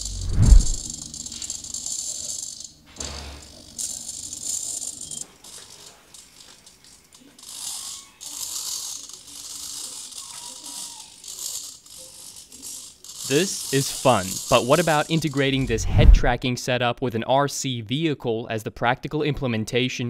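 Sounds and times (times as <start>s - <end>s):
servos whirring and rattling: 0.0s - 16.4s.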